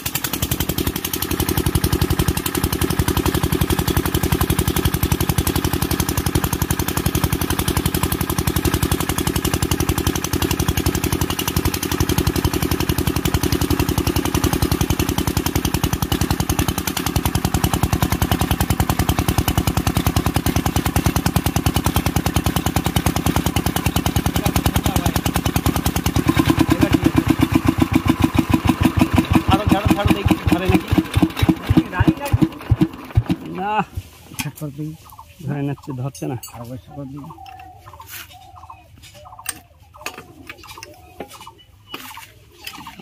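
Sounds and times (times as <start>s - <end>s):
diesel engine running: 0.0s - 35.6s.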